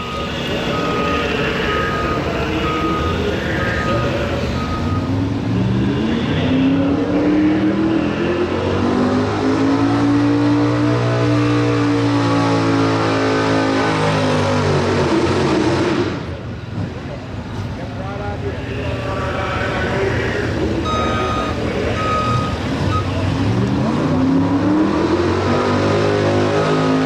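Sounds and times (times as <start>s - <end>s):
truck engine revving hard: 0.0s - 17.2s, 18.4s - 27.0s.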